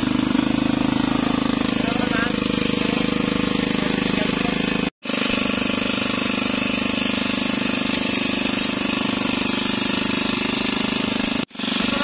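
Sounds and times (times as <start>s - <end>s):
small boat engine idling: 0.0s - 12.0s.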